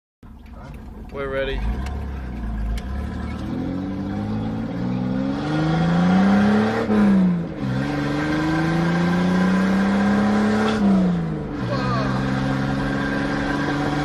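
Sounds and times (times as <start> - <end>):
loud exhaust accelerating: 0.7 - 14.0.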